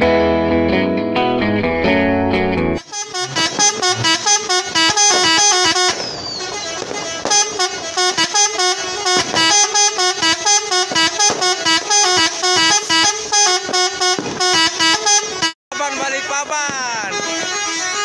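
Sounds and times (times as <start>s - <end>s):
multi-tone truck horn melody: 2.8s - 18.0s.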